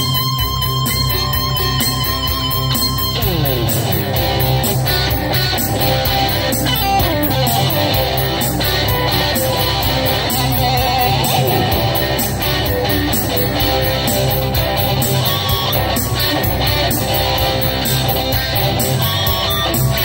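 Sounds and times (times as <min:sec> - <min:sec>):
backing beat with bass: 0:00.0 - 0:20.0
electric guitar lead melody: 0:00.0 - 0:20.0.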